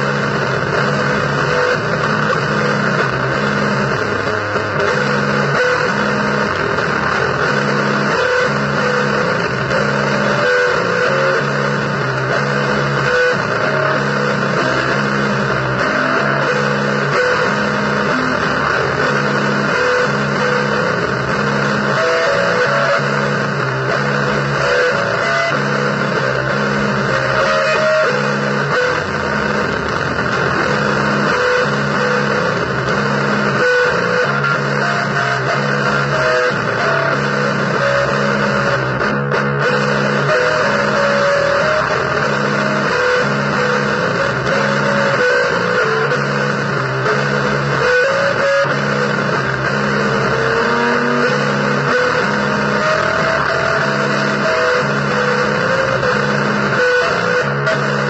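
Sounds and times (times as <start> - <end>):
distorted blues guitar: 0.0 - 58.0.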